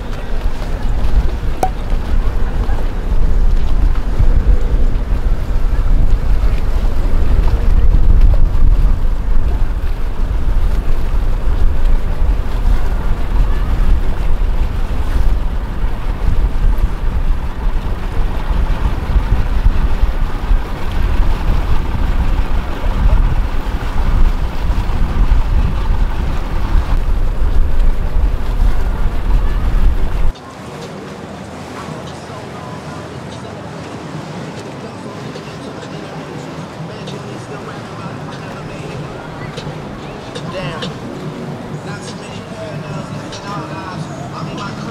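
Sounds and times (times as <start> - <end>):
water: 0.0 - 44.9
wind buffeting microphone: 0.0 - 44.9.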